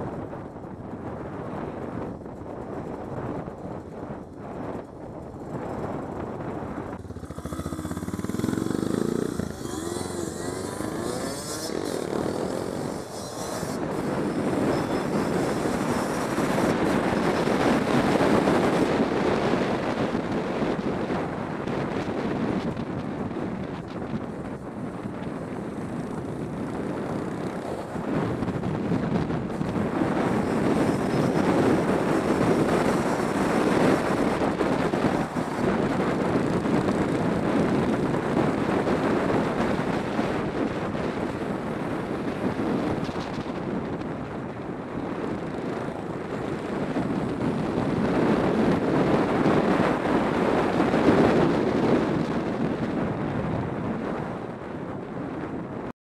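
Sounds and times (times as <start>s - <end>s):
motorcycle engine running: 0.0s - 45.0s
wind rushing over microphone: 0.0s - 55.9s.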